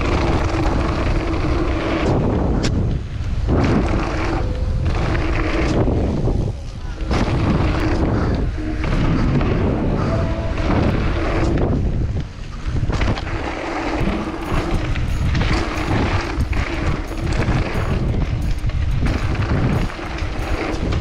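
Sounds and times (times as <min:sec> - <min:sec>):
bike rattles and knocks: 0:00.0 - 0:21.0
wind buffeting microphone: 0:00.0 - 0:21.0.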